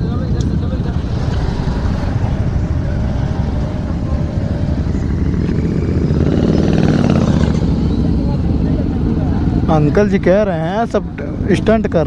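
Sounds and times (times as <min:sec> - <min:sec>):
motorcycle engine rumbling: 0:00.0 - 0:10.3.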